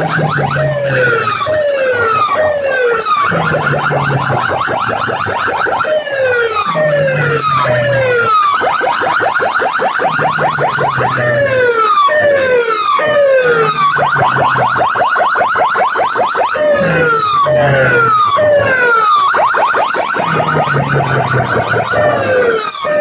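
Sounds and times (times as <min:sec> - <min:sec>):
low steady drone: 0:00.0 - 0:15.0, 0:16.5 - 0:19.4, 0:20.1 - 0:23.0
electronic siren whooping: 0:00.0 - 0:23.0.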